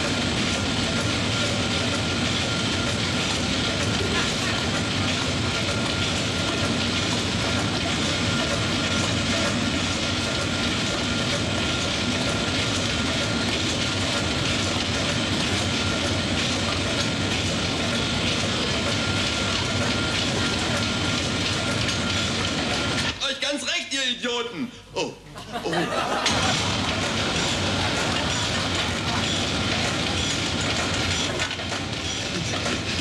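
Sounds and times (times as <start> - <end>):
engine-room machinery din: 0.0 - 23.2, 25.9 - 33.0.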